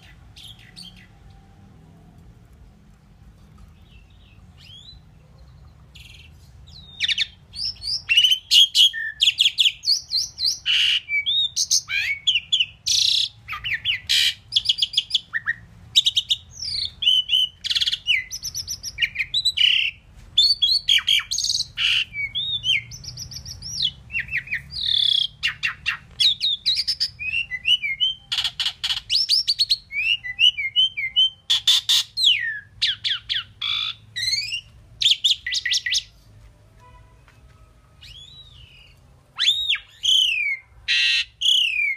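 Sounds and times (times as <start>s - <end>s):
bird singing whistled notes: 6.0s - 36.1s, 38.0s - 41.9s.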